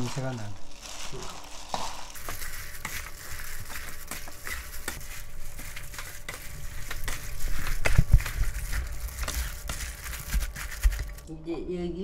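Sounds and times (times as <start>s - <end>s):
gloved hand mixing food in bowl: 0.0s - 11.3s.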